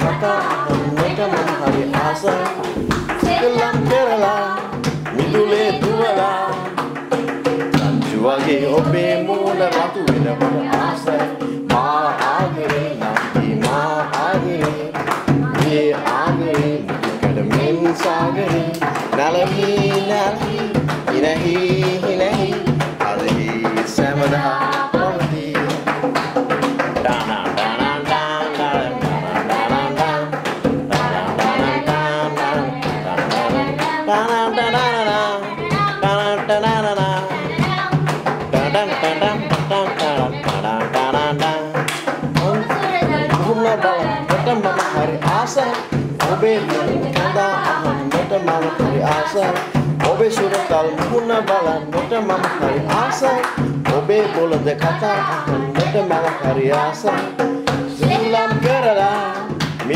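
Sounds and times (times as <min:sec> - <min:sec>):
hand drumming on plastic bottle: 0:00.0 - 0:59.9
person singing: 0:00.0 - 0:59.9.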